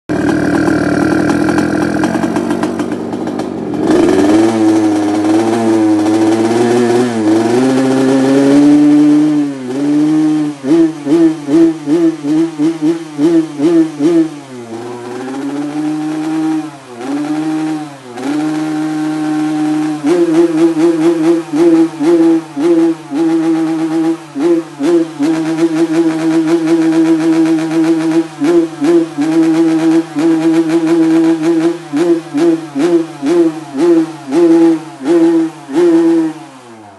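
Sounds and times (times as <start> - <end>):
motorcycle engine revving: 0.1 - 36.9.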